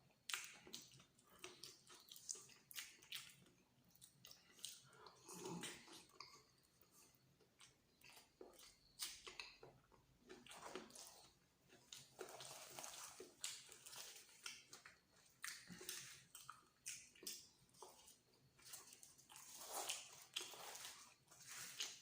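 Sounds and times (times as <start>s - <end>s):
chewing and lip-smacking: 0.2s - 22.0s.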